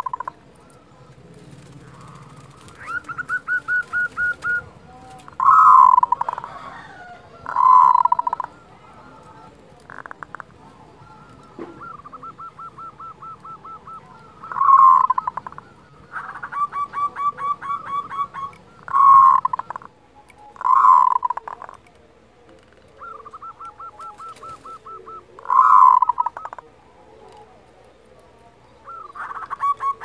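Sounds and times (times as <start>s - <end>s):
dove calling: 0.0s - 30.0s.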